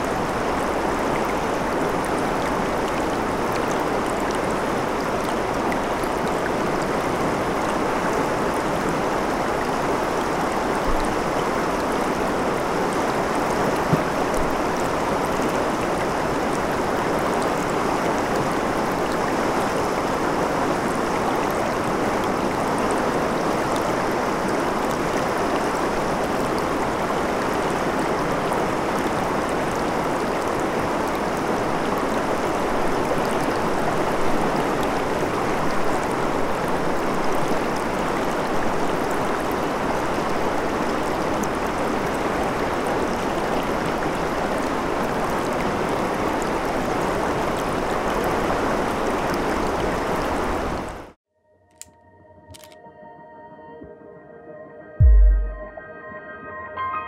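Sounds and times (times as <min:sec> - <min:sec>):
river flowing over stones: 0:00.0 - 0:51.2.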